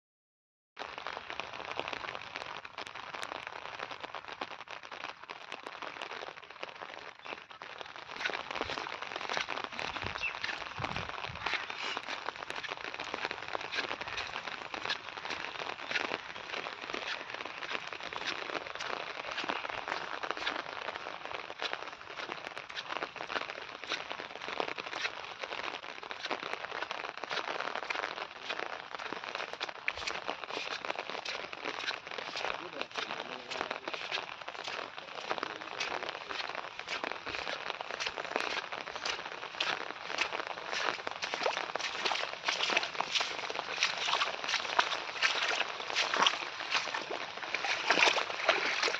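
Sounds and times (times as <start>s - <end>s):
heavy rain on hard surface: 0.8s - 48.9s.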